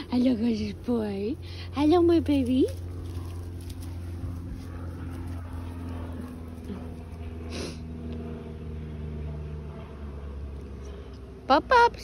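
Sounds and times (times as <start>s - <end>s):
distant motor humming: 0.0s - 12.0s.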